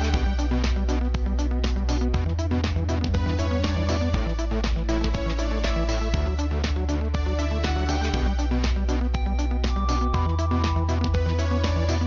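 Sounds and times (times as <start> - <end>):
electronic music with bass: 0.0 - 12.0.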